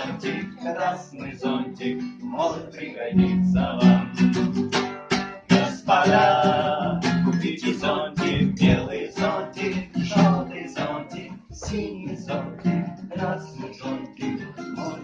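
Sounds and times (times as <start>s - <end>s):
acoustic guitar strumming: 0.0s - 15.0s
sing-along song: 0.0s - 15.0s.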